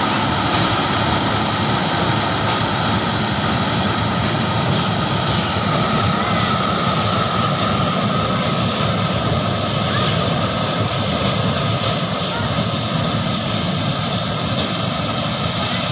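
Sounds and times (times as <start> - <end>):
harvester engine drone: 0.0 - 15.9.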